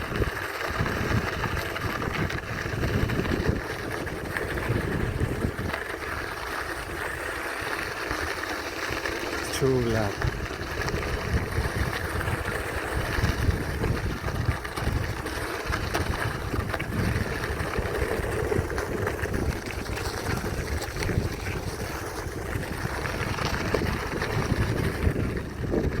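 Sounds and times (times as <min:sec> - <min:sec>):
wind buffeting microphone: 0:00.0 - 0:07.2, 0:09.5 - 0:26.0.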